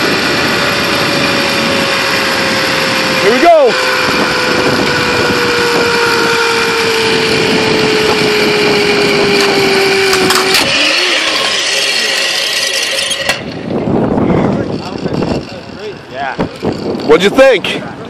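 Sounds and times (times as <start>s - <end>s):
wind rushing: 0.0s - 11.2s, 13.4s - 17.8s
zipline pulleys whirring: 0.0s - 18.0s.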